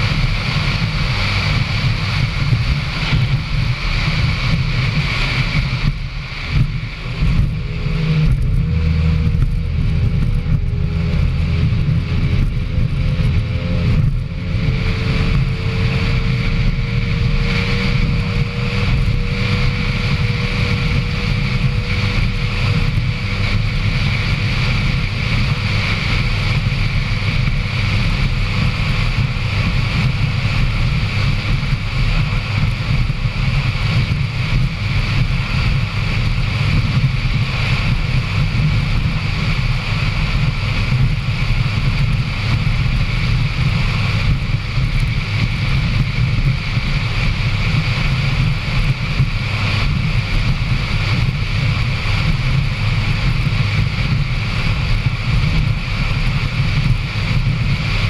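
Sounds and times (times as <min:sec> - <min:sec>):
powerboat engine running: 0:00.0 - 0:58.0
thin steady whine: 0:00.0 - 0:58.0
wind buffeting microphone: 0:00.0 - 0:58.0.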